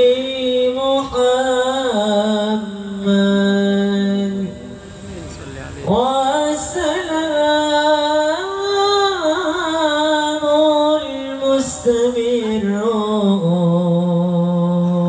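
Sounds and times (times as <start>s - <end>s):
man singing through a microphone: 0.0s - 15.0s.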